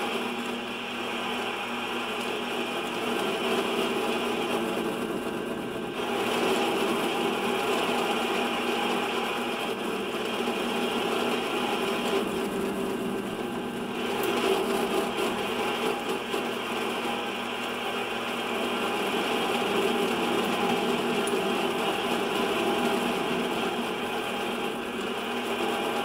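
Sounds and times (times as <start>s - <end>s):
metal lathe motor humming: 0.0s - 26.0s.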